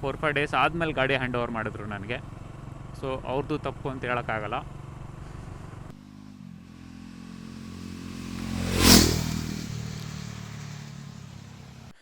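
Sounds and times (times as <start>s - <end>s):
motorcycle riding past: 0.0s - 12.0s.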